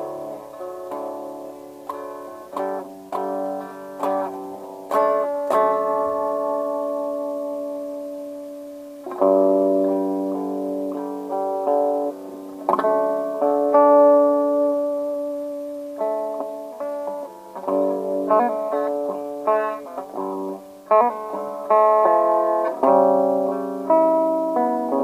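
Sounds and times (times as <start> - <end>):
guitar notes and chords: 0.0 - 25.0.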